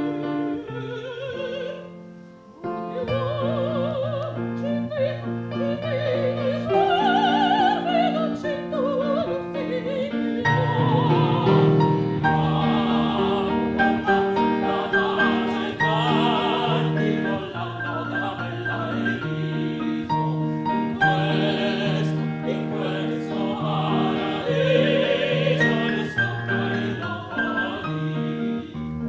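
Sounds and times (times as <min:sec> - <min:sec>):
instrumental accompaniment: 0:00.0 - 0:29.0
operatic singing with vibrato: 0:00.2 - 0:02.0, 0:02.6 - 0:29.0.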